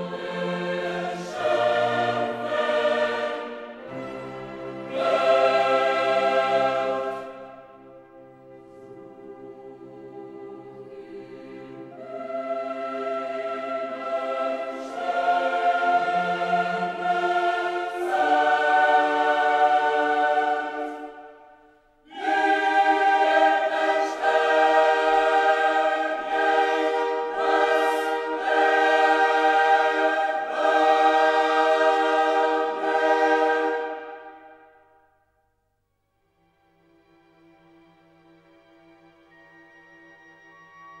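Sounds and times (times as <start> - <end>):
choir singing held chords: 0.0 - 35.1.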